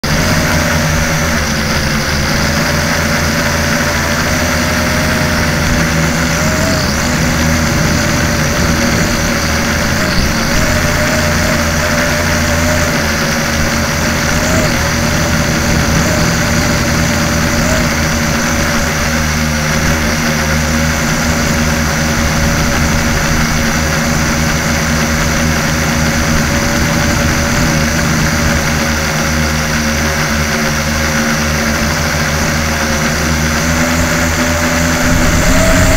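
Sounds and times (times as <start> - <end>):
drone motors buzzing: 0.0 - 35.9.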